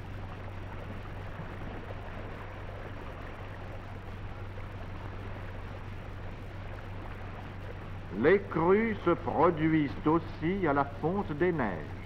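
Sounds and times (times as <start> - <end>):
low hum: 0.0 - 12.0
soundtrack hiss: 0.0 - 12.0.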